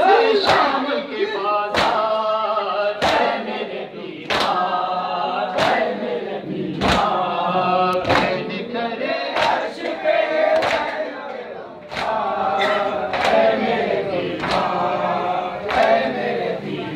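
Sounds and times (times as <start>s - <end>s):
men chanting a lament: 0.0s - 16.9s.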